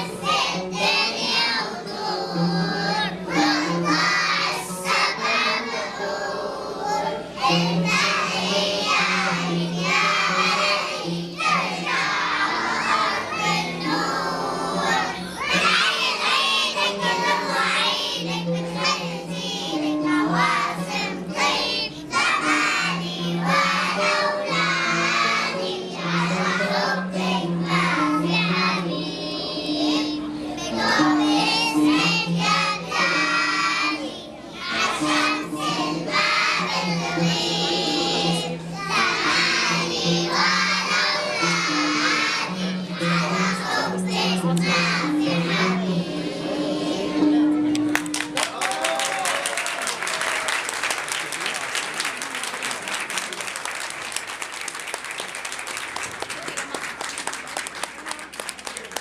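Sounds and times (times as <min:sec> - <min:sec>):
children singing: 0:00.0 - 0:47.6.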